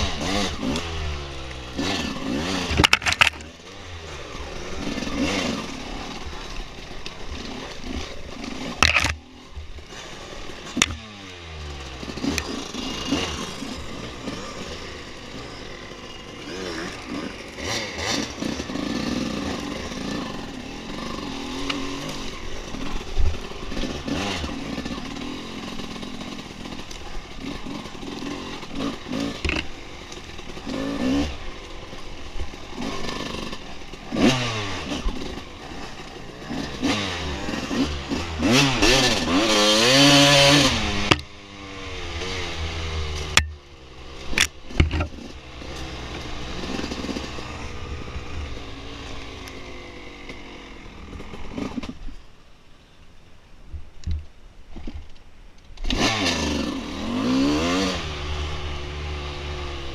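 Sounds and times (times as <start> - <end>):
dirt bike engine revving: 0.0 - 52.1, 55.8 - 59.9.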